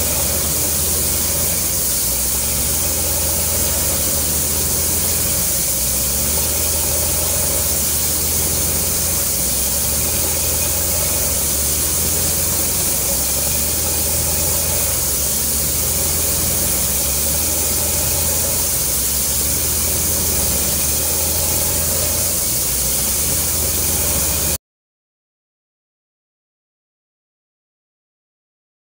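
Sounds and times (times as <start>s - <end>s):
drilling rig engine drone: 0.0s - 24.6s
strong even hiss: 0.0s - 24.6s.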